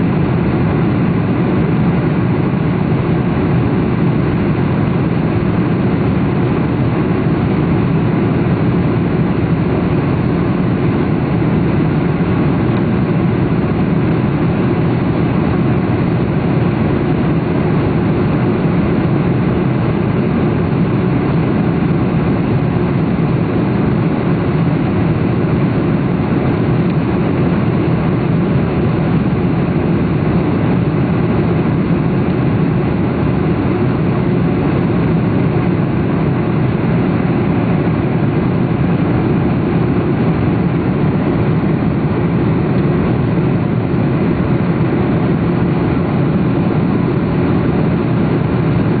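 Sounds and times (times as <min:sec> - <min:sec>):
jet engines and rushing air: 0:00.0 - 0:49.0.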